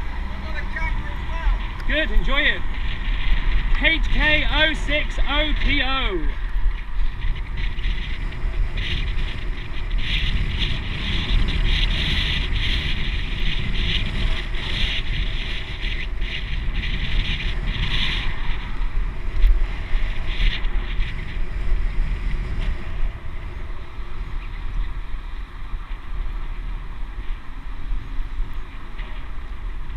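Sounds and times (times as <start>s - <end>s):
road noise: 0.0s - 29.9s
wind buffeting microphone: 0.0s - 29.9s.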